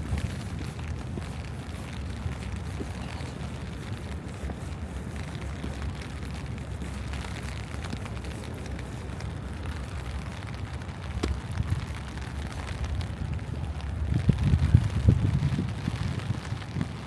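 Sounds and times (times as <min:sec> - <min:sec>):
low street rumble: 0:00.0 - 0:17.0
rain patter ticks: 0:00.0 - 0:17.0.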